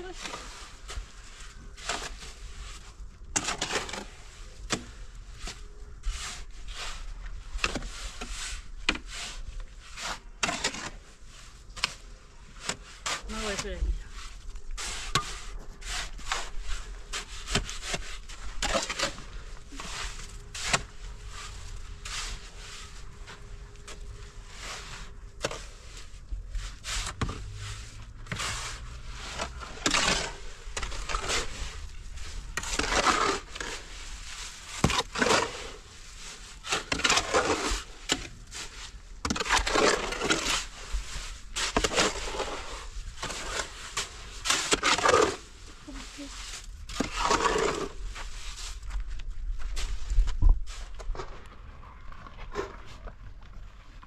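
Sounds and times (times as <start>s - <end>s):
shovels scraping wet mortar: 0.0s - 49.0s.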